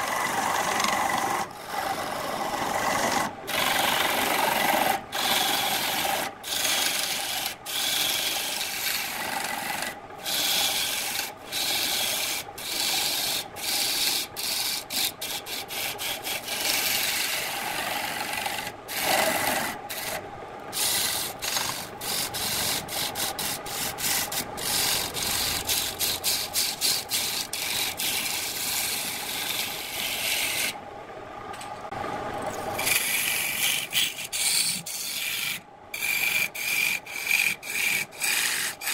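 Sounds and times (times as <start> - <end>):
lathe tool scraping wood: 0.0 - 30.8, 32.8 - 38.9.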